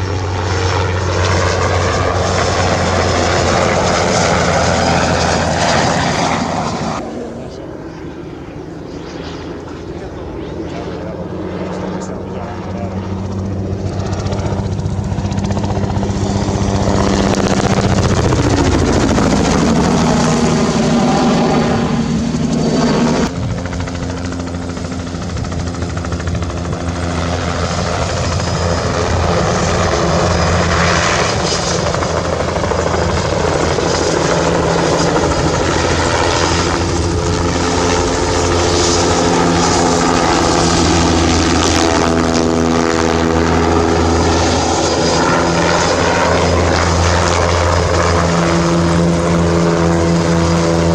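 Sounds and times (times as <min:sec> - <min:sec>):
helicopter rotor and turbine: 0:00.0 - 0:50.9.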